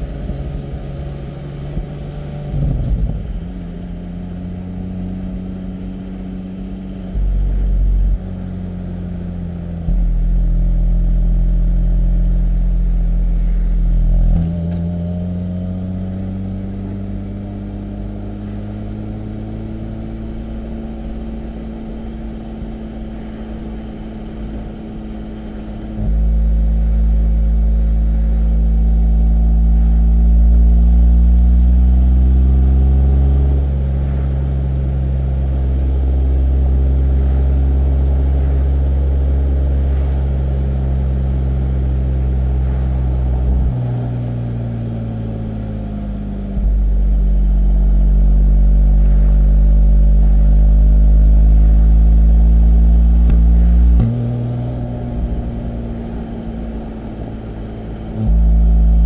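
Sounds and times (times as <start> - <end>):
car engine through sports exhaust: 0.0 - 59.0.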